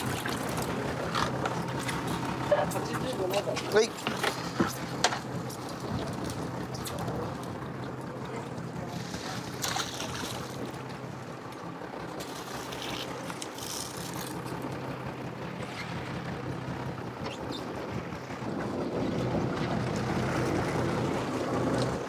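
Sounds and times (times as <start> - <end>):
boat engine humming: 0.0 - 22.0
water noise: 0.0 - 22.0
wind: 0.0 - 22.0.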